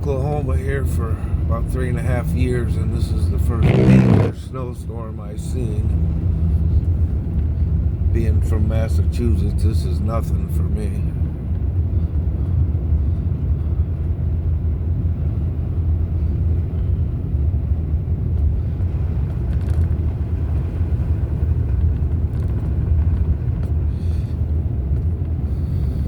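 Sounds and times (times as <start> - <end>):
road noise: 0.0 - 26.0
vehicle engine rumble: 0.0 - 26.0.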